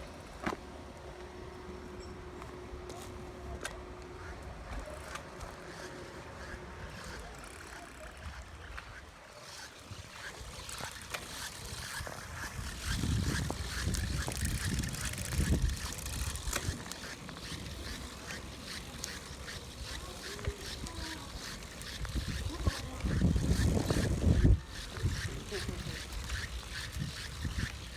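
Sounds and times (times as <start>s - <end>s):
bicycle clicks and squeaks: 0.0s - 27.9s
bicycle rolling noise: 0.0s - 27.9s.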